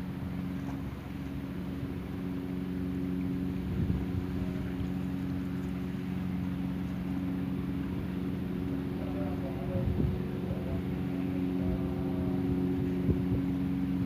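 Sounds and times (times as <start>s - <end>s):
motor boat engine droning: 0.0s - 14.0s.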